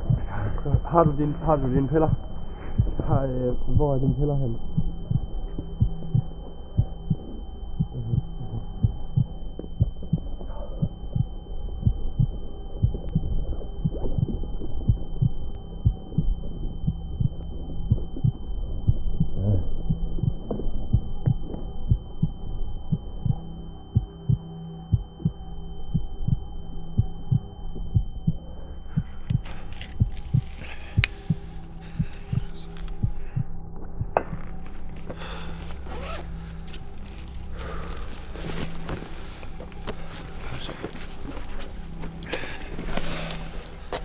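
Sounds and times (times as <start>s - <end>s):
heartbeat thumping: 0.0s - 44.0s
high-pitched ringing tone: 0.0s - 44.0s
low droning hum: 0.0s - 44.0s.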